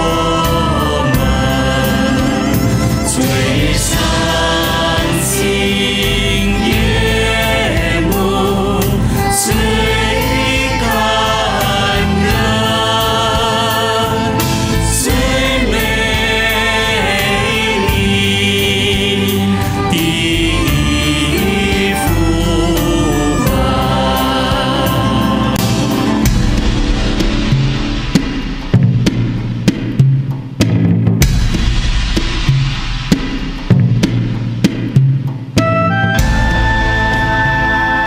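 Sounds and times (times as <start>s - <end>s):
choir singing with instruments: 0.0s - 29.7s, 31.2s - 38.0s.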